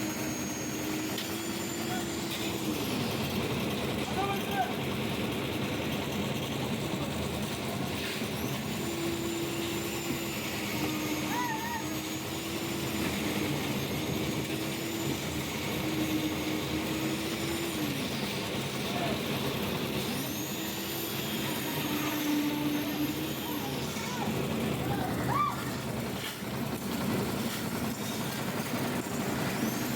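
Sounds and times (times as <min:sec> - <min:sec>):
machine whine: 0:00.0 - 0:05.5, 0:06.6 - 0:29.9
concrete mixer running: 0:00.0 - 0:29.9.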